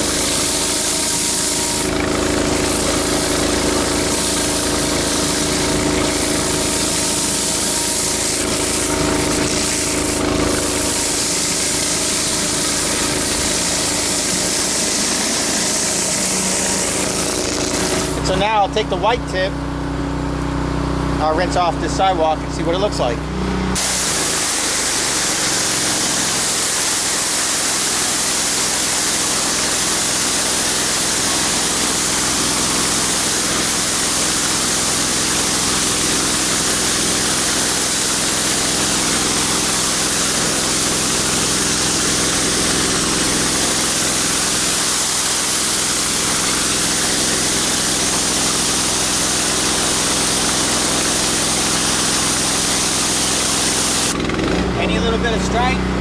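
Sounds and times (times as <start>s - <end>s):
water spray hissing on concrete: 0.0s - 18.3s, 23.8s - 54.2s
pressure washer motor hum: 0.0s - 56.0s.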